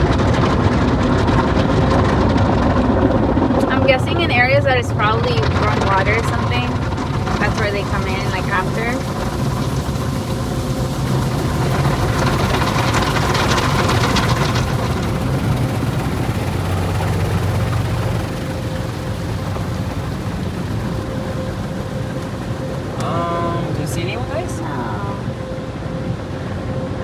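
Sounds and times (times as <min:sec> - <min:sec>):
car wash machinery hum: 0:00.0 - 0:27.0.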